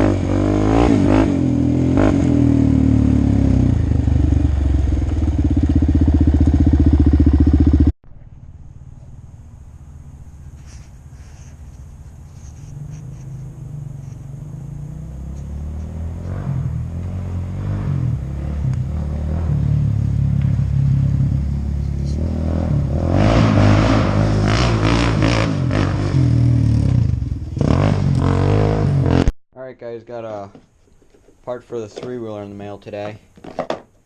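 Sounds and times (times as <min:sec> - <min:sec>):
quad bike engine revving: 0:00.0 - 0:07.9, 0:09.8 - 0:29.3.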